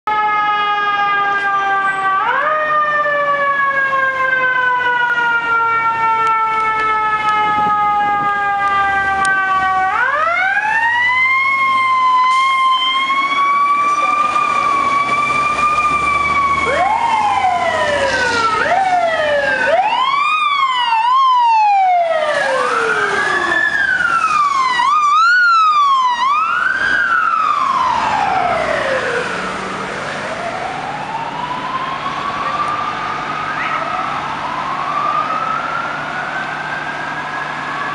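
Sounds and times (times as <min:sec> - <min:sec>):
fast siren yelp: 0:00.1 - 0:37.9
fire truck sirens wailing: 0:00.1 - 0:37.9.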